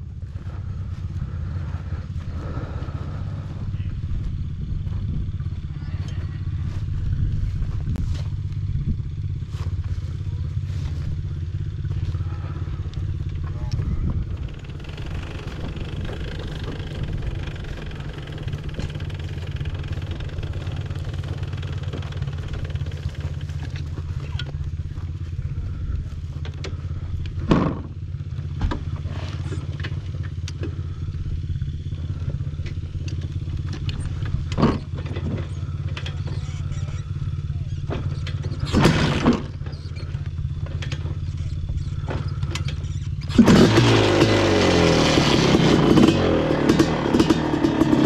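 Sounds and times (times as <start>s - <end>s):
two-stroke engine running: 0.0s - 48.0s.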